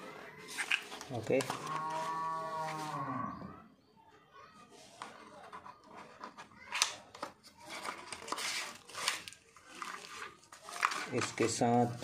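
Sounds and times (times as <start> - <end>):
cardboard and paper rustling: 0.0 - 3.1, 4.8 - 12.0.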